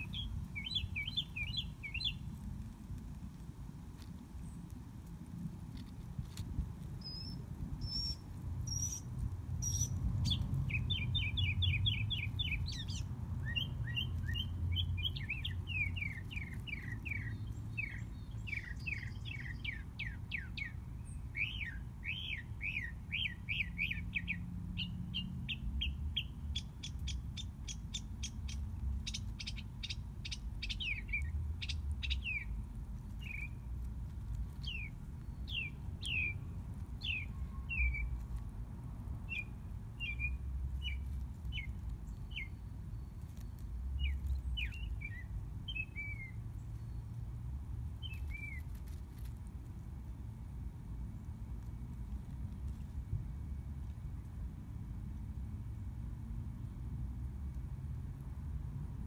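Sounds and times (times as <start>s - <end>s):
songbirds chirping: 0.0s - 4.9s, 5.7s - 49.3s.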